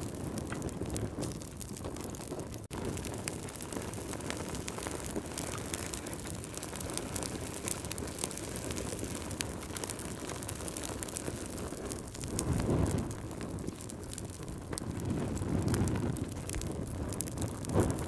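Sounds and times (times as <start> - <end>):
whoosh of flame: 0.0 - 18.0
wood fire crackling: 0.0 - 18.0.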